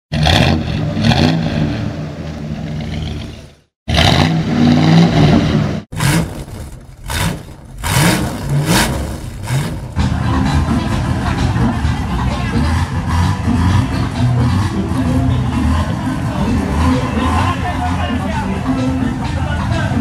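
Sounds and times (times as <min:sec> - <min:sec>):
car engines revving: 0:00.1 - 0:20.0.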